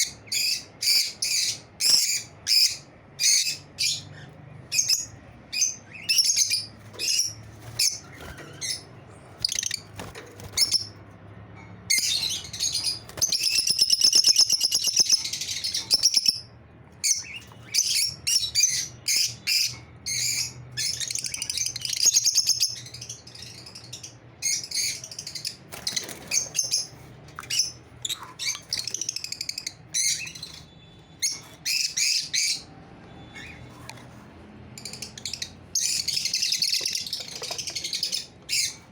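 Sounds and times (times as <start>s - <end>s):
lovebirds chirping: 0.0s - 11.1s, 11.9s - 34.1s, 34.7s - 38.9s.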